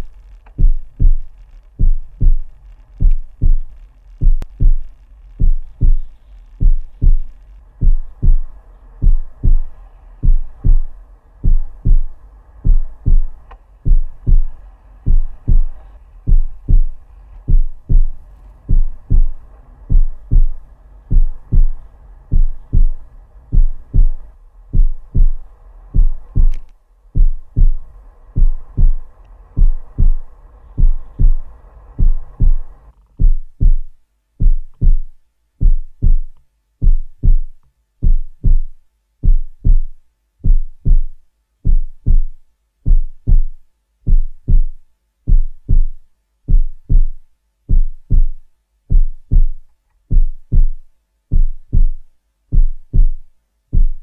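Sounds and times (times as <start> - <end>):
heartbeat thumps: 0.0 - 54.0.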